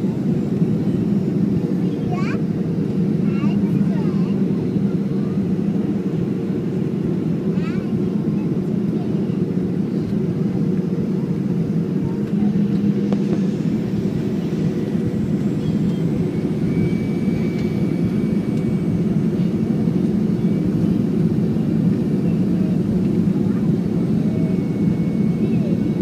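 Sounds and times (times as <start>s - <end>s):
airplane cabin engine roar: 0.0s - 26.0s
faint high engine whine: 0.0s - 26.0s.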